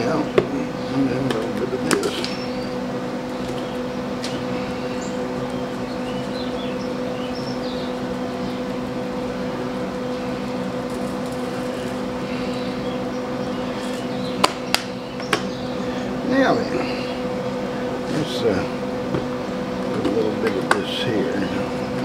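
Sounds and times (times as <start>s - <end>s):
machine hum with low drone: 0.0s - 22.0s.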